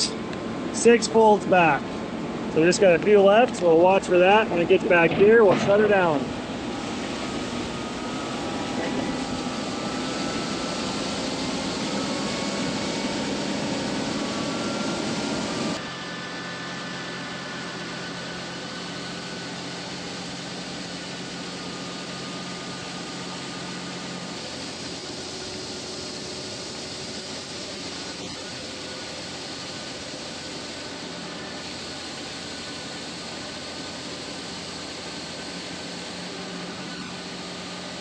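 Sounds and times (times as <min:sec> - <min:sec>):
tractor and grain bagger running: 0:00.0 - 0:38.0.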